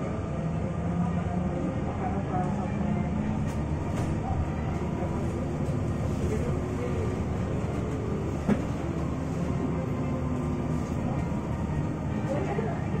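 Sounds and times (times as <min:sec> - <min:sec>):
tyres rumbling on road: 0:00.0 - 0:13.0.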